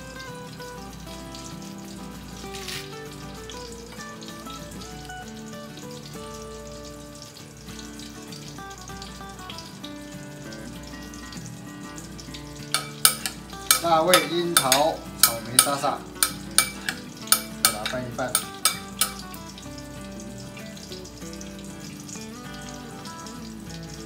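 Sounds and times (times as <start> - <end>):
background music: 0.0 - 24.0
fish sizzling in a pan: 0.0 - 24.0.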